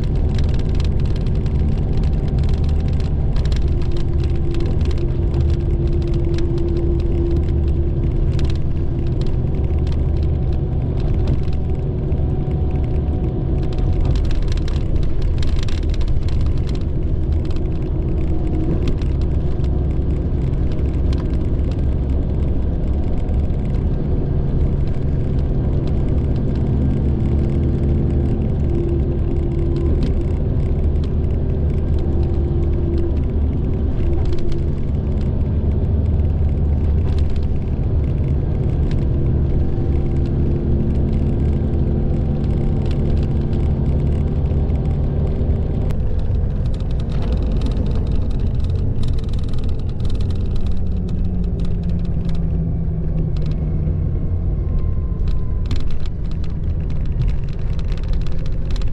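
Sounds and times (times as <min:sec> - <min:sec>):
coach engine and tyre drone: 0:00.0 - 0:58.9
light clicks and rattles: 0:00.0 - 0:58.9.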